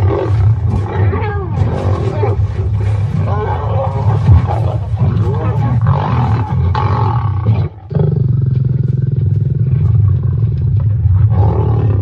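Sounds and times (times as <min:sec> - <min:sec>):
lion snarls: 0:00.0 - 0:12.0
lions growling: 0:00.0 - 0:12.0.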